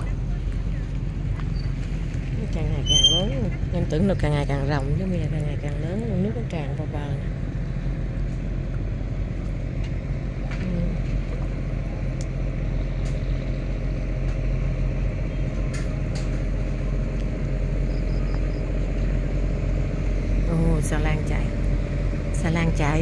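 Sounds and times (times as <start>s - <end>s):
ferry engine droning: 0.0s - 23.0s.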